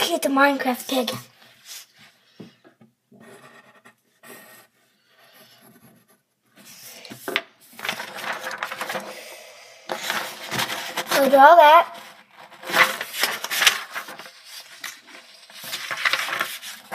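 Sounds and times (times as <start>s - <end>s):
pencil strokes scratching on paper: 3.2s - 16.9s.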